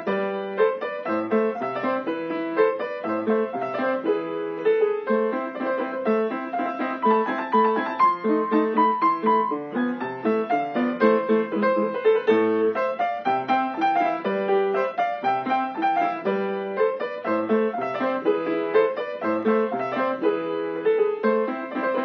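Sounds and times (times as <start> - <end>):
upright piano playing: 0.0 - 22.0.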